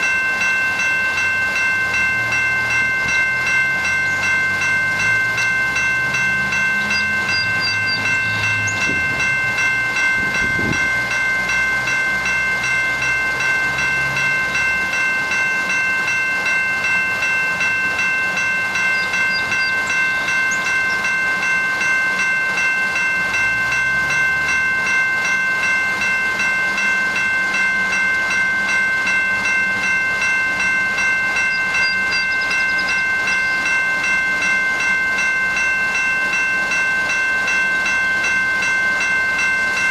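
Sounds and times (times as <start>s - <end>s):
diesel locomotive engine running: 0.0s - 39.9s
steady high chord: 0.0s - 39.9s.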